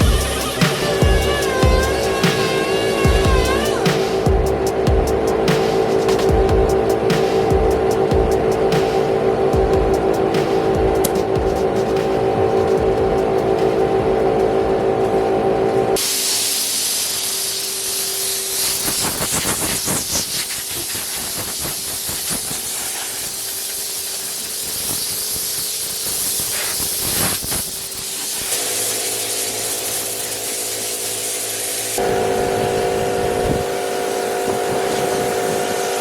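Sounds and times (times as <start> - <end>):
pressurised jet hissing: 0.0 - 14.6, 16.0 - 36.0.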